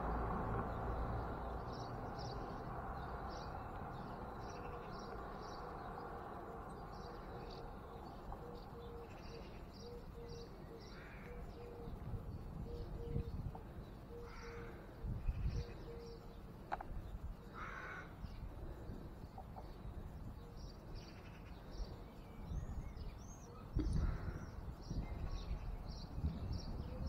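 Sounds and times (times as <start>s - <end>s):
harsh bird calls: 0.8s - 27.0s.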